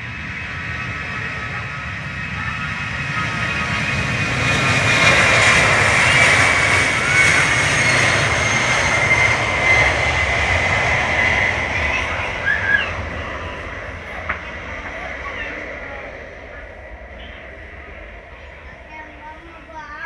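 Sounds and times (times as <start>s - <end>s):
jet engines passing by: 0.0s - 20.0s.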